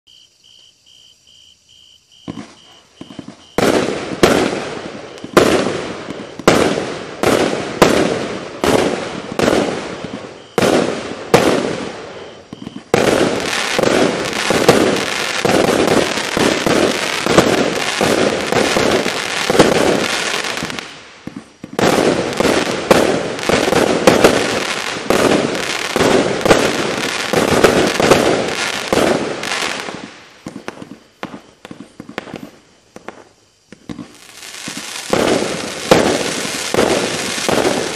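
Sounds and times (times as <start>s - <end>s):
firework bangs and rapid reports: 2.2s - 31.0s, 33.8s - 37.9s.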